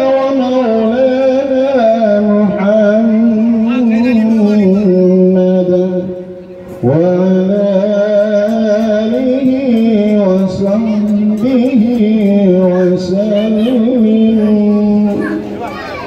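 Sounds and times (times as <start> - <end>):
man chanting into a microphone: 0.0 - 15.5.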